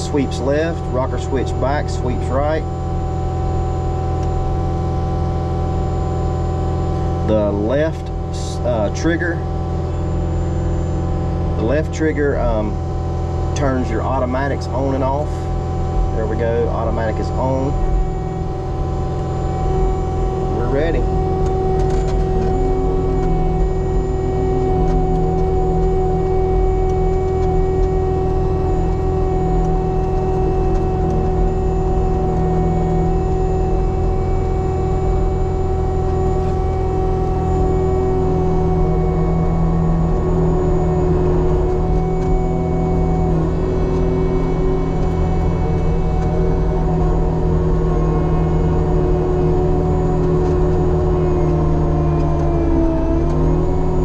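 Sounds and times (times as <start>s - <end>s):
diesel engine at full throttle: 0.0s - 54.0s
steady whine: 0.0s - 54.0s.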